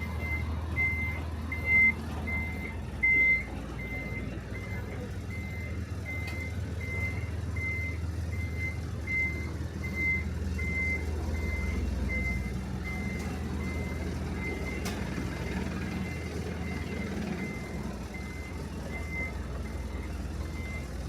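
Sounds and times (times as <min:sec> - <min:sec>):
truck engine running: 0:00.0 - 0:21.0
truck reversing alarm beeping: 0:00.0 - 0:21.0.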